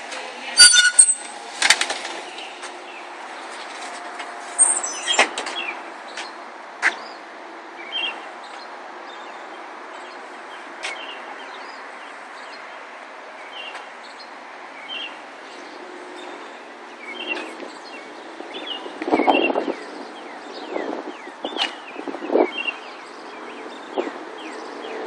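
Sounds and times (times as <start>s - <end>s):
outdoor background noise: 0.0s - 25.0s
small birds chirping: 4.6s - 25.0s.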